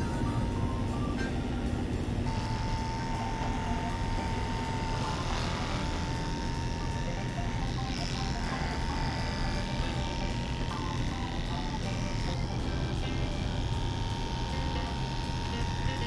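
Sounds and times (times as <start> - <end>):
electric clippers humming: 0.0 - 16.0.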